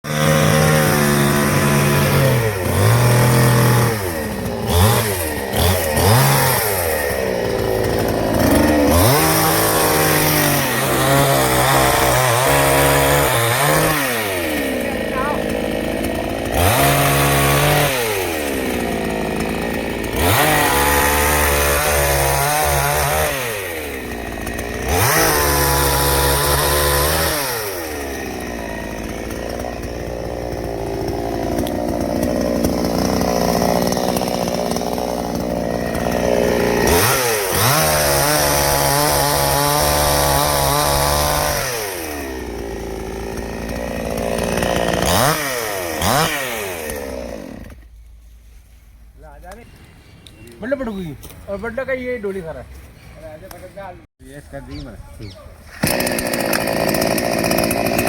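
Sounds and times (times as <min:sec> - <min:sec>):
chainsaw revving cutting wood: 0:00.0 - 0:47.9, 0:55.6 - 0:58.0.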